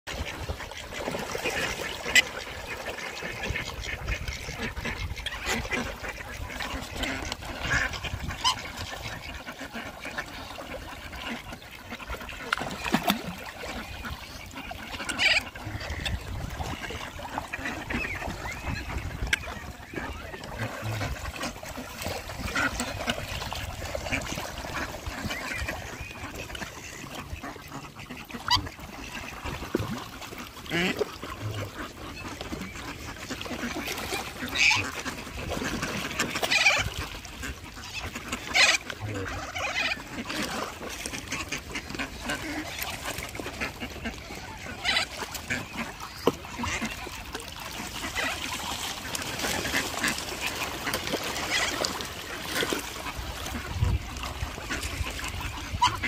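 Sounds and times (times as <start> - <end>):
ducks quacking: 0.1 - 56.0
water splashing: 0.1 - 56.0.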